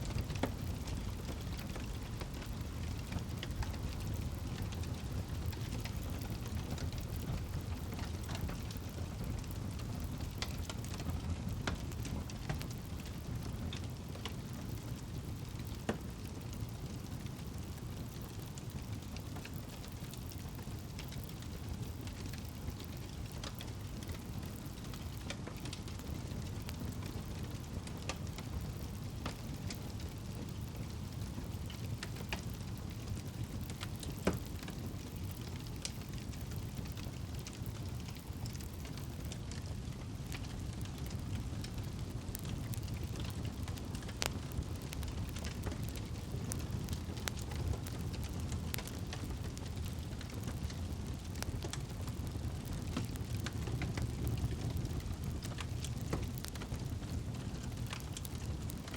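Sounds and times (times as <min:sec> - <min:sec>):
low rumble of flames: 0:00.0 - 0:58.9
loud pops from fire: 0:00.1 - 0:58.9
wood crackling: 0:00.1 - 0:58.9.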